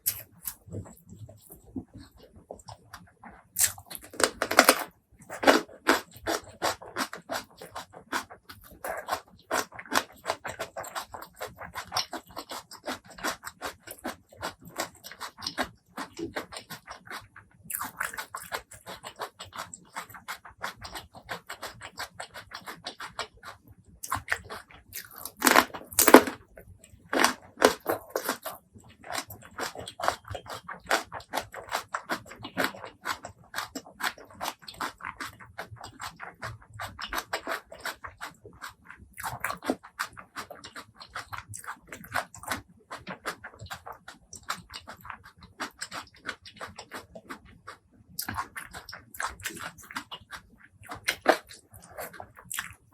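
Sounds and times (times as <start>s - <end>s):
wet chewing and crunching: 0.0s - 52.9s.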